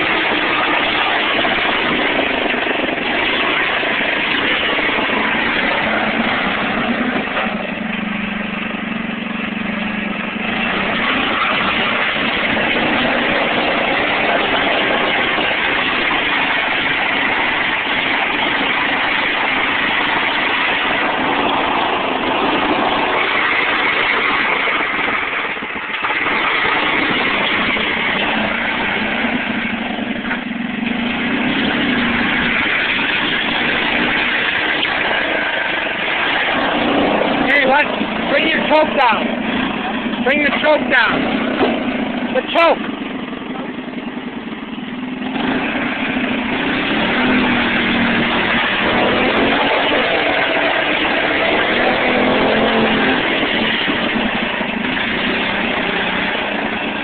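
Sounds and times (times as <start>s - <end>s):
gravel being pushed: 0.0s - 43.8s, 45.2s - 57.0s
tractor engine running: 0.0s - 57.0s.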